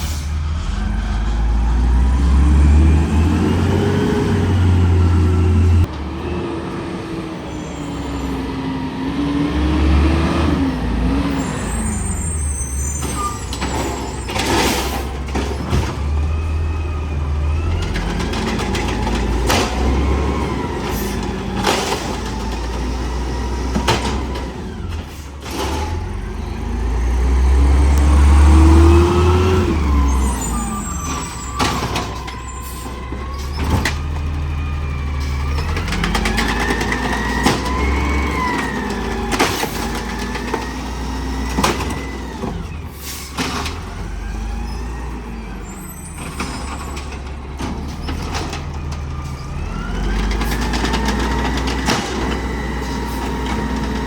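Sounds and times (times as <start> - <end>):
garbage truck engine revving: 0.0 - 54.0.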